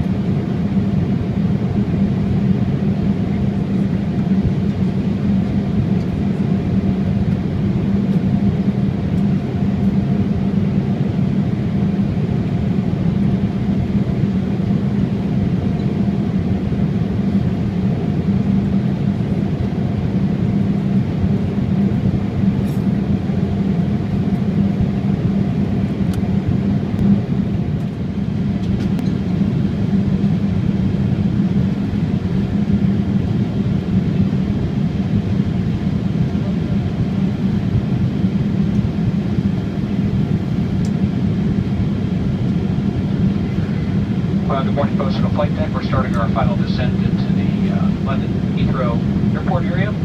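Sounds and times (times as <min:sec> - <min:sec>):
airliner cabin air rush: 0:00.0 - 0:50.0
low hum: 0:00.0 - 0:50.0.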